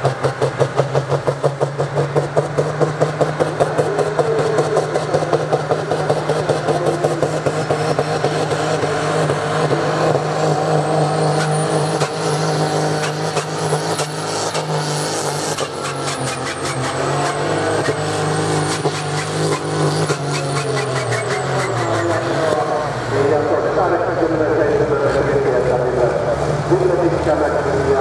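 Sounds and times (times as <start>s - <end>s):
diesel tractor engine running hard: 0.0s - 28.0s.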